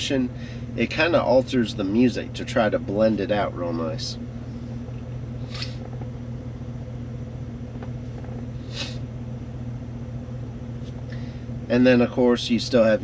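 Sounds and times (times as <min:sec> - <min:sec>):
low hum inside truck cab: 0:00.0 - 0:13.0.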